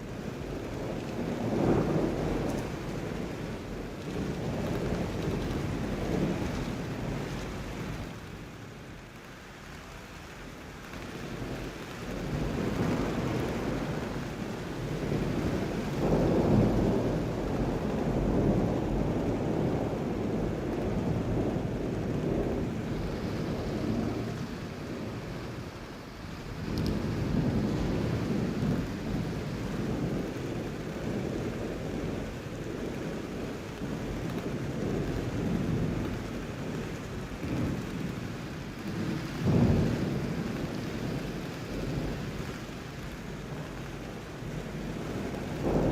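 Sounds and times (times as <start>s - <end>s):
steady rain: 0.0s - 45.9s
rolling thunder: 0.4s - 8.0s, 12.2s - 45.9s.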